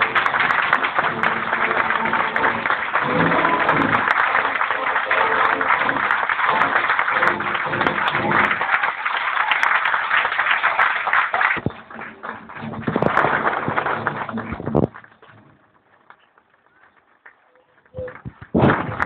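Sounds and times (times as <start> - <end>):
audience clapping: 0.0 - 19.0.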